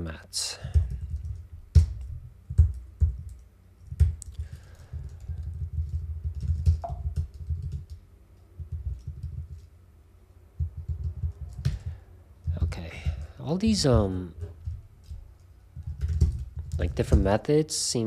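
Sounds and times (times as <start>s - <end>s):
computer keyboard typing: 0.7s - 9.7s, 10.6s - 17.0s.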